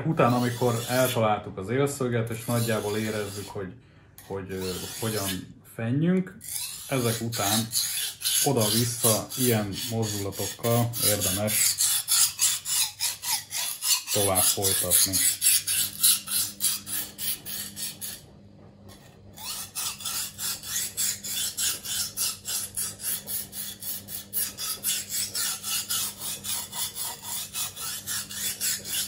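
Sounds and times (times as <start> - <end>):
knife scraping on whetstone: 0.1 - 1.2, 2.3 - 3.6, 4.2 - 5.4, 6.4 - 18.2, 18.9 - 29.0.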